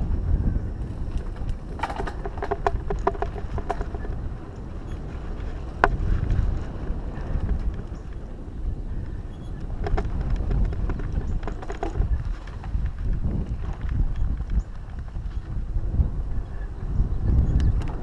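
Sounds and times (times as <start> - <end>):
bike clicking and rattling: 0.0 - 18.0
wind buffeting microphone: 0.0 - 18.0
tyres rumbling on dirt: 0.8 - 15.5.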